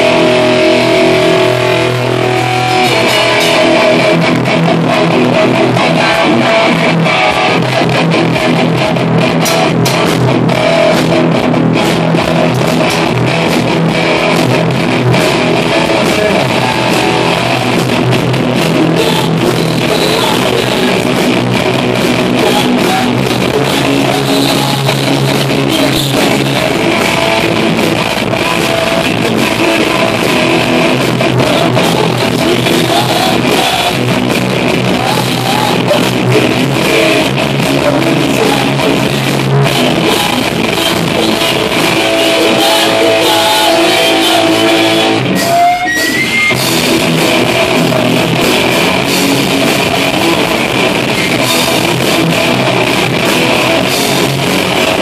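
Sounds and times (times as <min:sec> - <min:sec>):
bass guitar: 0:00.0 - 0:55.0
drum kit with cymbals: 0:00.0 - 0:55.0
electric guitar: 0:00.0 - 0:55.0.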